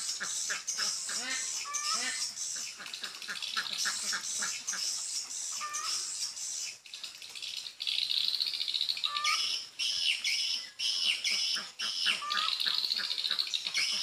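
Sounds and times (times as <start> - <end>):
bird chirping trills: 0.0 - 14.0.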